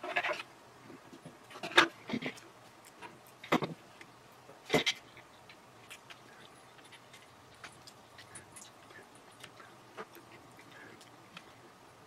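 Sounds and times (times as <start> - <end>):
hands rustling and clicking: 0.4 - 11.6.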